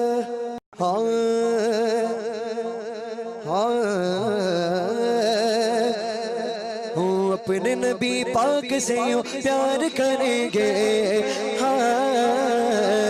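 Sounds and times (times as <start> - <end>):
solo voice singing devotional song: 0.0 - 13.0.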